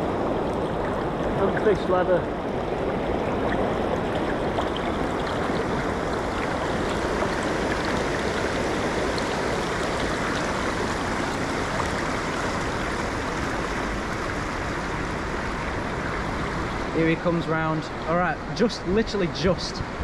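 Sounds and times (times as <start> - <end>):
river rushing over a weir: 0.0 - 20.0.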